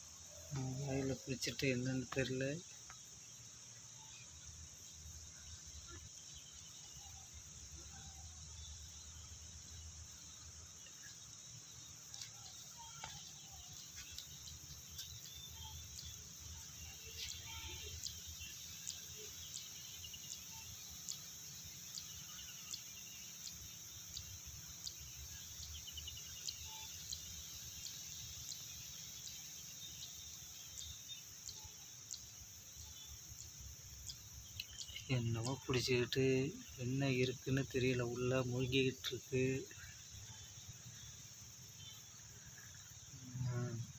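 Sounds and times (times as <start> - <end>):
faint bird chirps: 0.0 - 43.9
insects chirring: 0.0 - 43.9.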